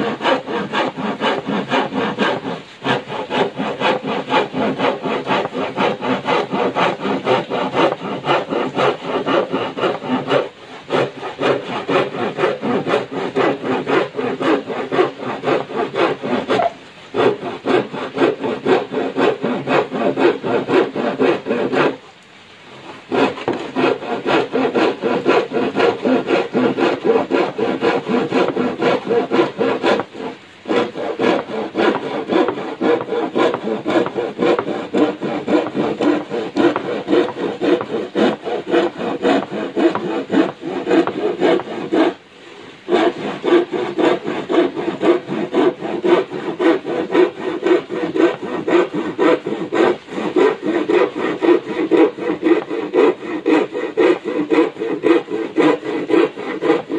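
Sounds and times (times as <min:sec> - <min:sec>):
hand saw cutting plywood: 0:00.0 - 0:56.9.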